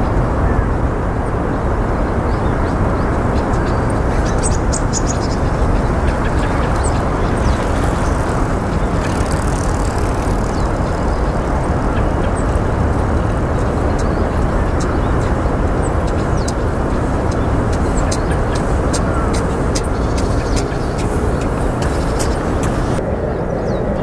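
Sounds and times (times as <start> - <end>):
distant road traffic roar: 0.0 - 24.0.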